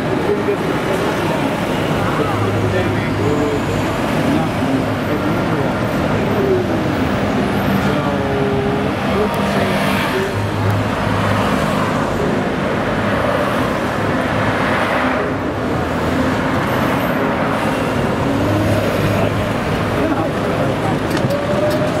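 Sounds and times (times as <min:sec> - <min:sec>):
car engines humming: 0:00.0 - 0:22.0
road noise: 0:00.0 - 0:22.0.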